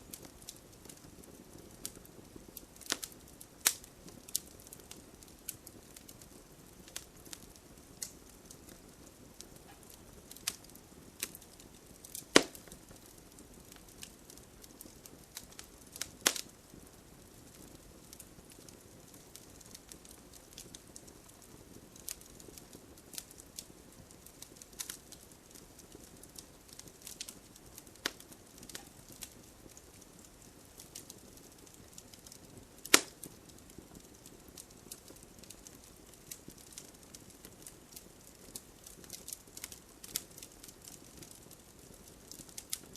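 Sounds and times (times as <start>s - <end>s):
fire crackling: 0.0s - 42.9s
loud pops of fire: 0.0s - 42.9s
soft hiss: 0.0s - 42.9s.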